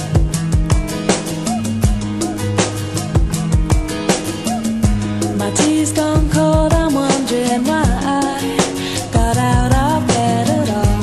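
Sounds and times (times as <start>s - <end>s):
song with sung melody over beat: 0.0s - 11.0s.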